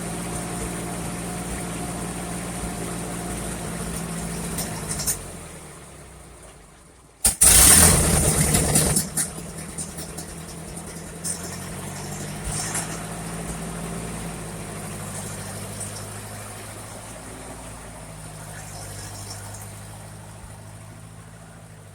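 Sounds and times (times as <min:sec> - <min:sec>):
tractor engine starting and idling: 0:00.0 - 0:21.9.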